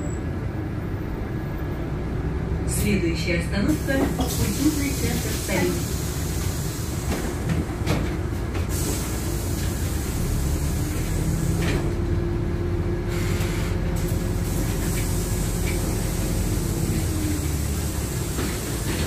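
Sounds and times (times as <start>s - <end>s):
bus engine rumble and hiss: 0.0s - 19.0s.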